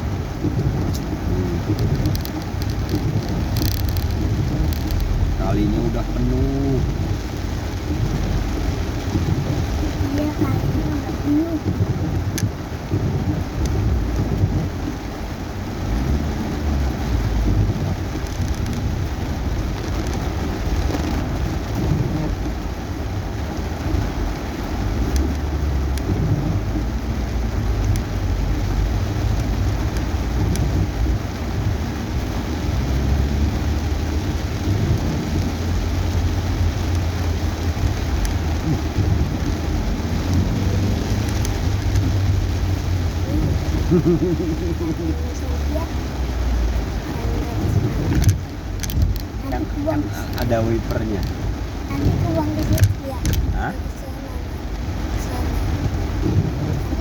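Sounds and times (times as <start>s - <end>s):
heavy rain on car roof: 0.0s - 57.0s
road and engine rumble: 0.0s - 57.0s.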